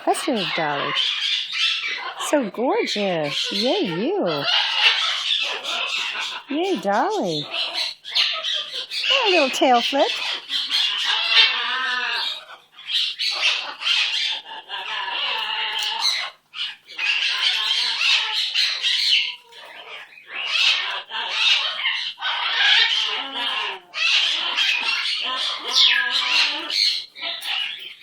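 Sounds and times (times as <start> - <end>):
pet bird chattering and squawking: 0.0 - 28.0.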